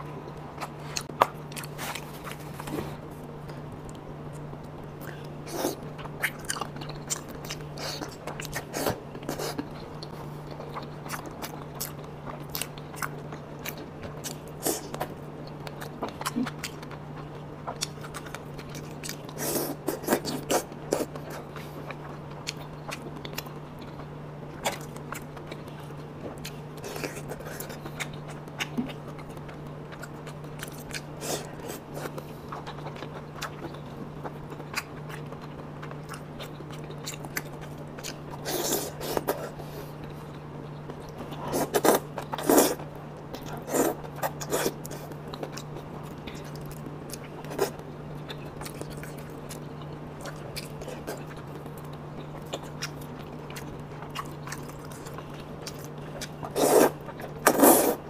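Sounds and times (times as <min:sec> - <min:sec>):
steady low hum: 0:00.0 - 0:58.0
person chewing food: 0:00.1 - 0:58.0.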